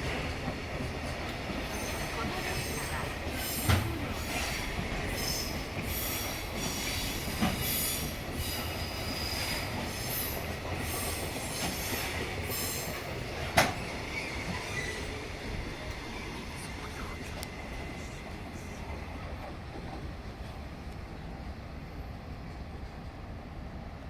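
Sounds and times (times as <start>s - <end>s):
train wagons rolling on rails: 0.0s - 23.9s.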